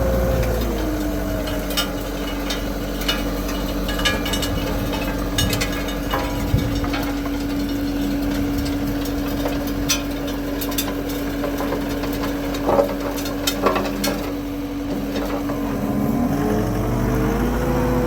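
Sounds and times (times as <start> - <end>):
diesel engine and hydraulics: 0.0 - 11.1, 12.8 - 18.0.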